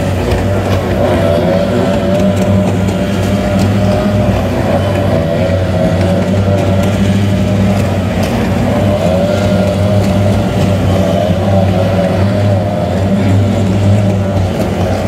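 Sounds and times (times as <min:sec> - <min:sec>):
outboard motors droning past: 0:00.0 - 0:15.0.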